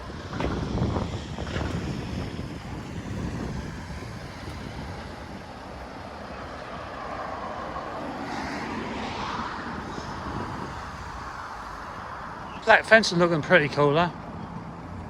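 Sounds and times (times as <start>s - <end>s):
motor vehicle passing: 0.0s - 13.4s
wind rumble on microphone: 0.0s - 15.0s.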